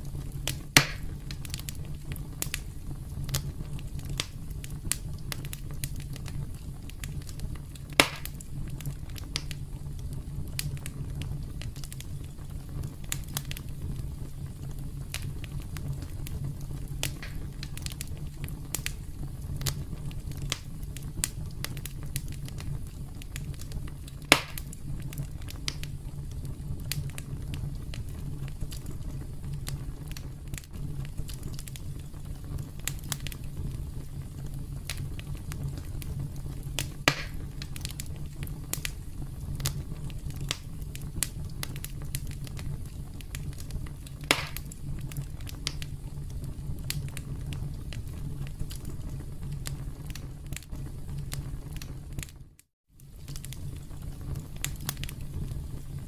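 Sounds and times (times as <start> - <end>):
campfire crackling: 0.0 - 52.4, 53.0 - 56.0
fire pops: 0.0 - 56.0.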